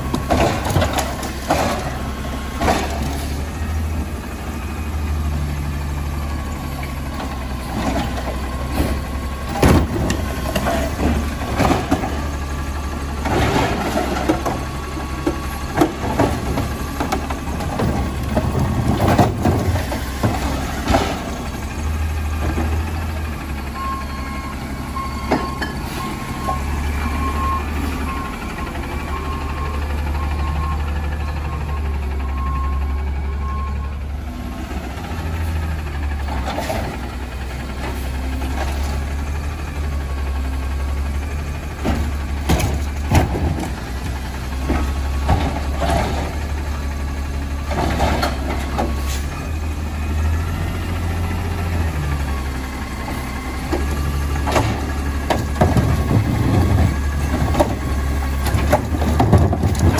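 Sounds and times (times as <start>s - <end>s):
clunks and clatter of carts: 0.0s - 59.9s
garbage truck idling: 0.0s - 59.9s.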